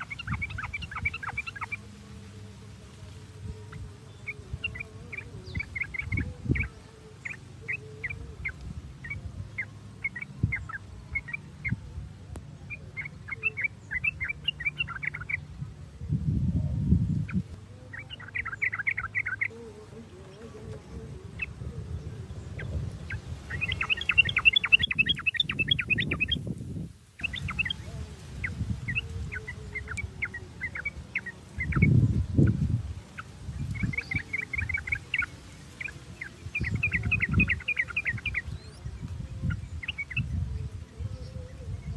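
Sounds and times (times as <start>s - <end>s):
bulbuls chirping and chattering: 0.0s - 41.9s.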